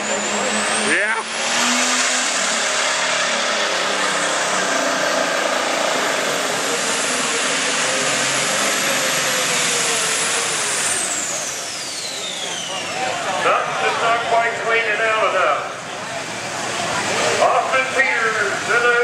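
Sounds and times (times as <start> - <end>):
diesel tractor engine under load: 0.0 - 19.0
high turbo whine: 0.0 - 19.0.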